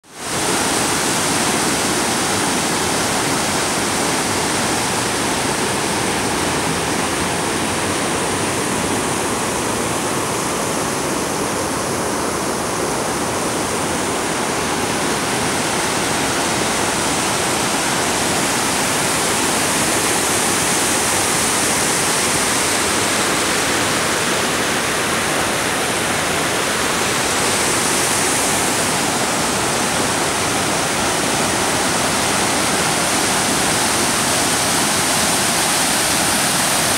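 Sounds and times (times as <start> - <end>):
water rushing over a dam: 0.0 - 36.9.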